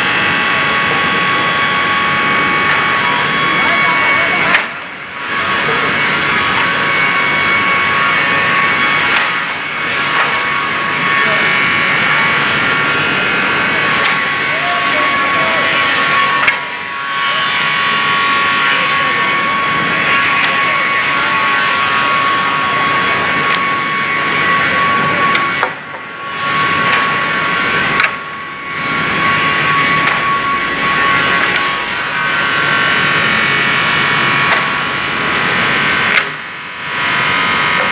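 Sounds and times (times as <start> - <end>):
rip saw cutting wood: 2.7 - 12.4, 13.4 - 33.6, 34.2 - 36.4.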